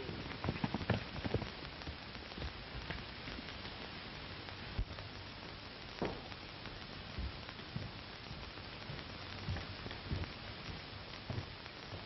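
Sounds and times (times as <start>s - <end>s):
galloping hoofbeats: 0.0s - 4.9s, 7.2s - 12.0s
film soundtrack hiss: 0.0s - 12.0s.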